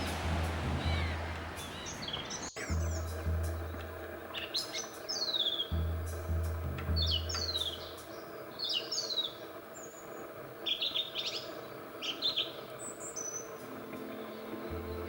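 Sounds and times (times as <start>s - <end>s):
low steady hum: 0.0s - 1.7s, 2.6s - 15.0s
small birds chirping: 0.0s - 15.0s.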